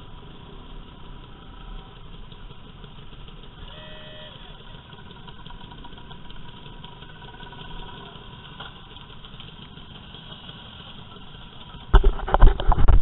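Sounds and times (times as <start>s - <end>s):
scooter engines idling: 0.0s - 13.0s.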